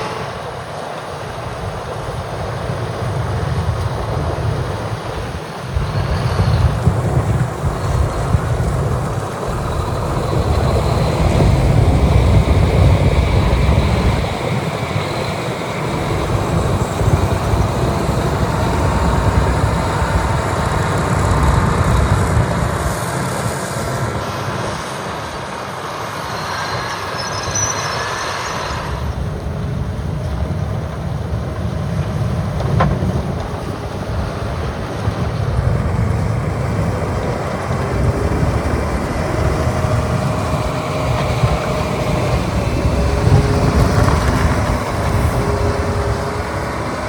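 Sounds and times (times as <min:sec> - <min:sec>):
diesel engines rumbling: 0:00.0 - 0:47.0.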